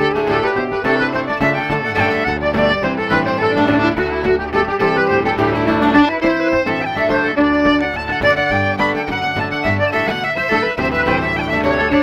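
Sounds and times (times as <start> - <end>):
accordion: 0.0 - 12.0
fiddle melody: 0.0 - 12.0
strummed guitar chords: 0.0 - 12.0.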